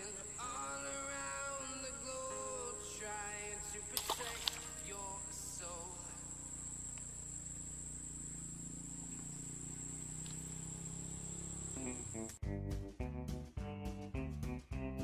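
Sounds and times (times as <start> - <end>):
high-pitched insect trill: 0.0 - 12.4.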